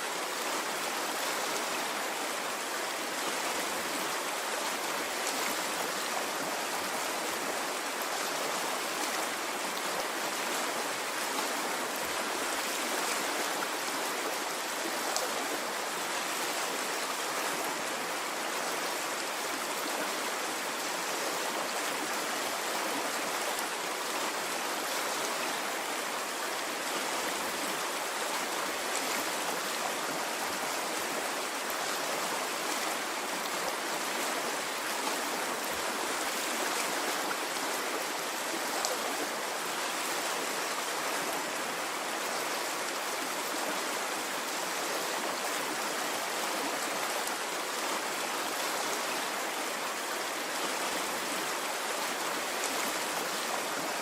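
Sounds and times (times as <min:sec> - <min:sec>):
water flowing in a stream: 0:00.0 - 0:54.0.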